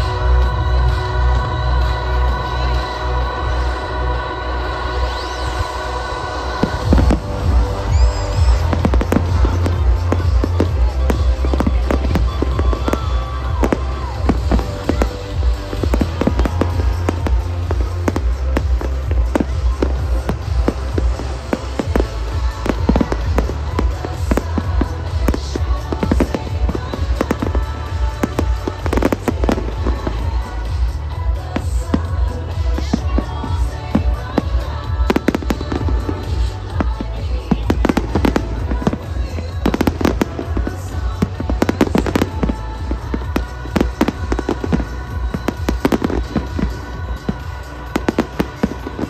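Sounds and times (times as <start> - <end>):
bass-heavy music: 0.0 - 49.0
fireworks bangs: 6.5 - 49.0.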